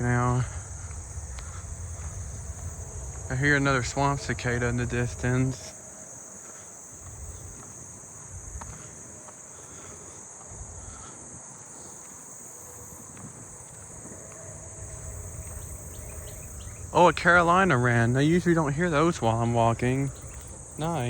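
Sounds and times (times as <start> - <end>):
crickets and katydids trilling: 0.0 - 21.0.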